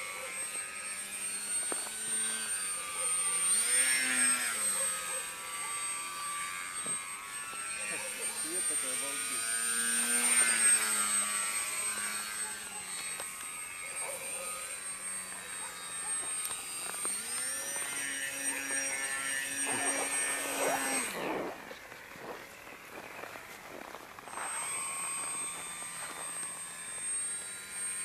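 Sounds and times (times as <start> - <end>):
model airplane motor droning: 0.0 - 28.0
thin high whine: 0.0 - 28.0.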